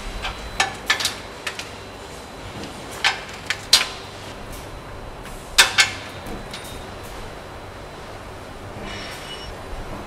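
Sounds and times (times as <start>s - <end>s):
low machine noise: 0.0s - 10.0s.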